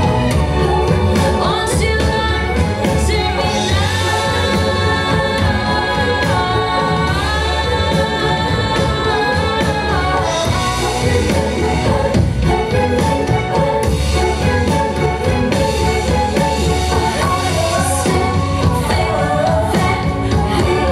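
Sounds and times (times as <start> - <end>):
pop music with sung notes: 0.0 - 20.9.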